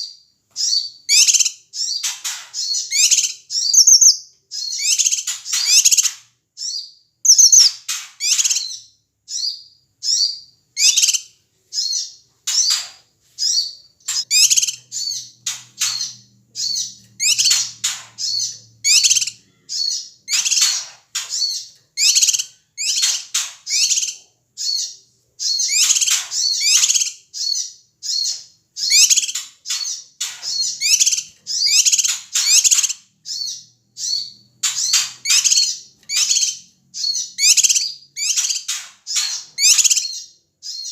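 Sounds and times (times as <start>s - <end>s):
leafbird calling: 0.0s - 40.9s.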